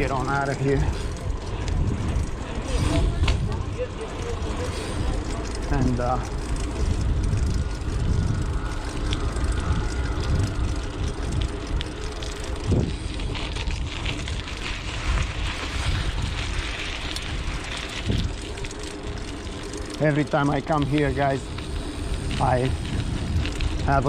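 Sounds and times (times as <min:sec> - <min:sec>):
bike tyres rolling: 0:00.0 - 0:24.0
wind rumbling on microphone: 0:00.0 - 0:24.0.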